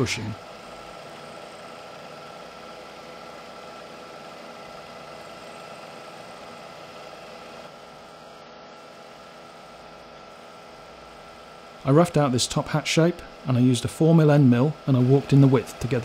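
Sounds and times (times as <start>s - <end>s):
milling machine humming: 0.0s - 16.0s.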